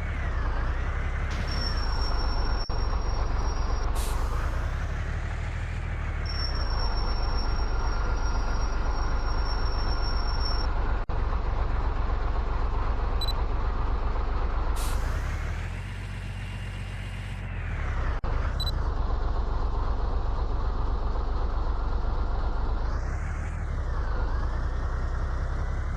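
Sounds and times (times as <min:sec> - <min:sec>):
truck engine running under load: 0:00.0 - 0:25.9.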